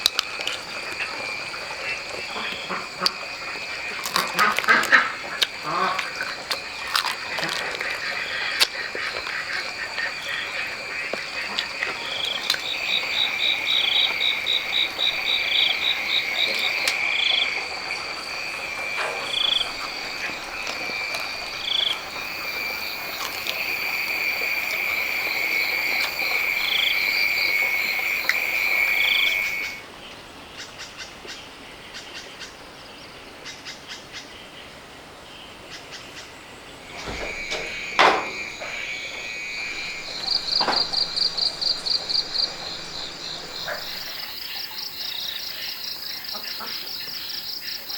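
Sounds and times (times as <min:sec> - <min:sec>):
high insect drone: 0:00.0 - 0:29.8, 0:36.9 - 0:47.9
repeating single frog calls: 0:00.0 - 0:29.8, 0:36.9 - 0:47.9
frog trilling call: 0:00.5 - 0:29.8, 0:36.9 - 0:47.9.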